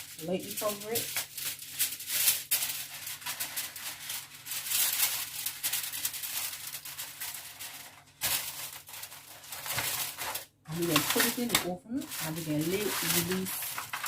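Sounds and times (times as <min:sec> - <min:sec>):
covering crinkling and rustling: 0:00.0 - 0:14.0.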